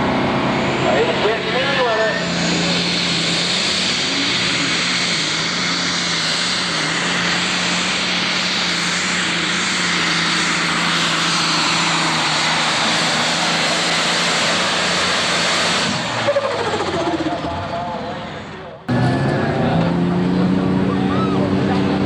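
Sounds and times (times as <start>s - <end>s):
tractor engine blaring: 0.0s - 22.0s.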